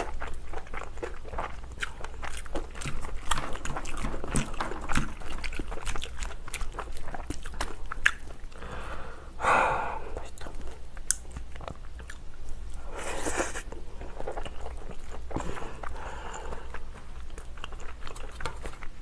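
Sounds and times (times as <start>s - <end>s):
wet chewing and lip smacks: 0.0s - 8.6s, 10.0s - 19.0s.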